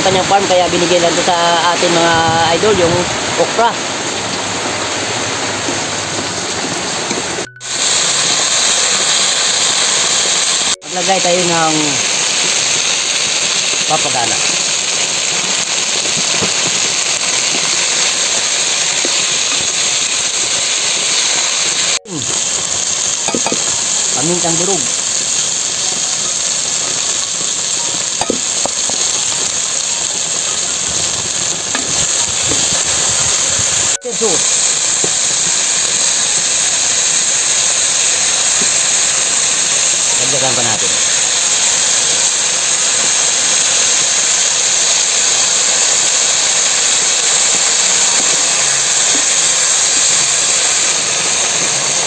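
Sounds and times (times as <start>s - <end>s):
okra sizzling in oil: 0.0s - 52.0s.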